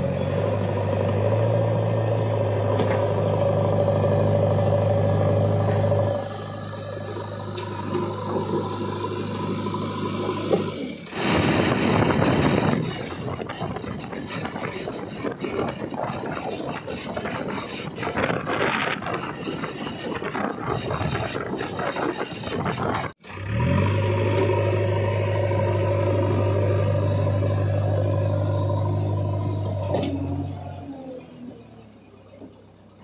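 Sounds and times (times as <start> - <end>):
engine hum: 0.0 - 33.0
wind and road noise: 0.0 - 33.0.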